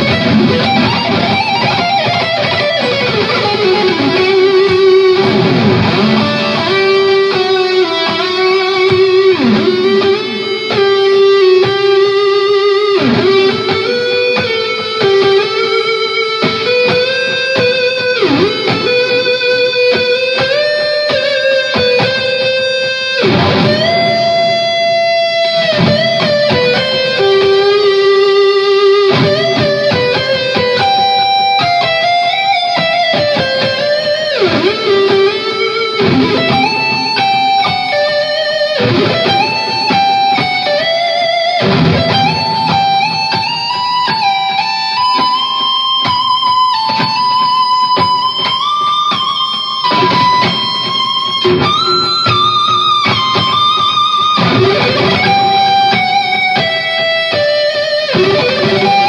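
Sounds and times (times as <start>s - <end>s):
electric guitar lead line: 0.0s - 59.0s.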